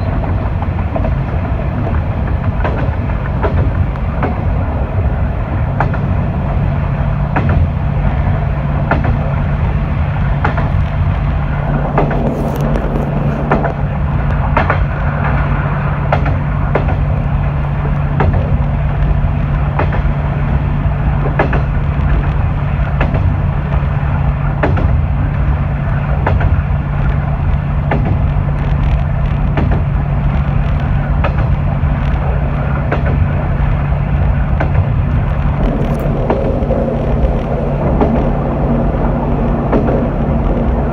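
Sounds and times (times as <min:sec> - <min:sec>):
diesel engine drone: 0:00.0 - 0:40.9
rail joint clicks: 0:00.0 - 0:40.9
rumbling train wheels: 0:00.0 - 0:40.9.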